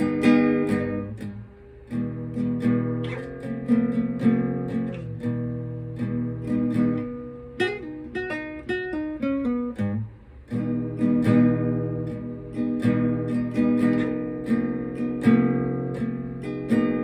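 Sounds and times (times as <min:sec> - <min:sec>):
acoustic guitar strumming: 0:00.0 - 0:17.0
picked guitar notes: 0:00.0 - 0:17.0.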